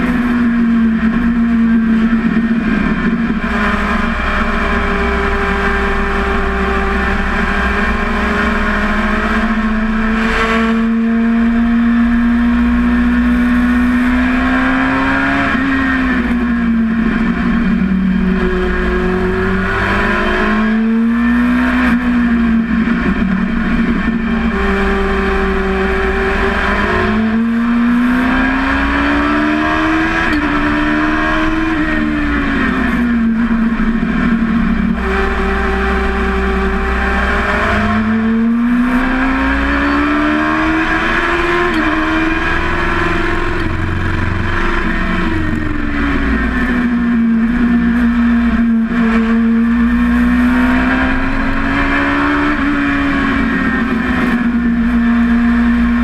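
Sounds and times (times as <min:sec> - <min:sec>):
race car engine revving: 0:00.0 - 0:56.0
wind and road noise: 0:00.0 - 0:56.0.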